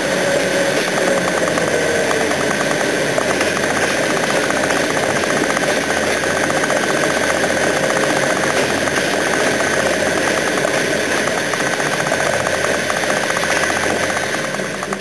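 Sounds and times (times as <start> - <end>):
car engine and running noise: 0.0 - 15.0
fast even ticking: 0.0 - 15.0.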